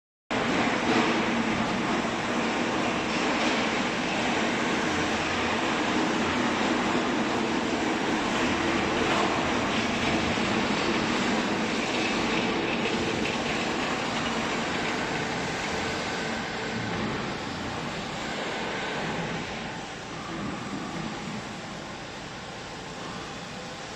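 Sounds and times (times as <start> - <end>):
hydraulic baler running: 0.3 - 23.6.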